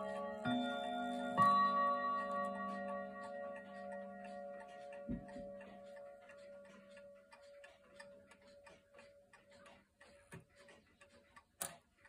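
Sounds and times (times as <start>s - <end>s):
mantel clock ticking softly: 0.0s - 12.0s.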